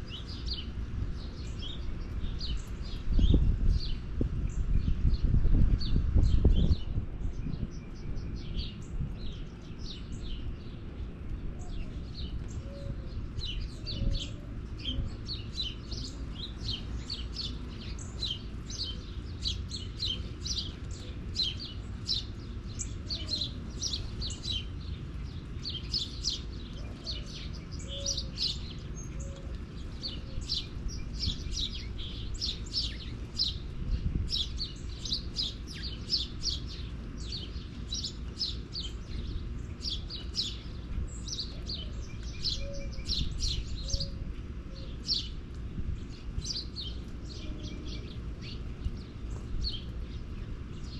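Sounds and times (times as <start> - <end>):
low steady rumble: 0.0 - 50.9
small birds chirping: 0.0 - 50.9.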